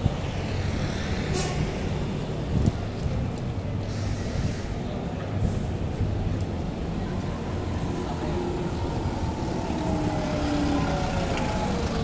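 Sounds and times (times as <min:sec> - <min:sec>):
bus engine rumbling: 0:00.0 - 0:12.0
street traffic: 0:00.0 - 0:12.0.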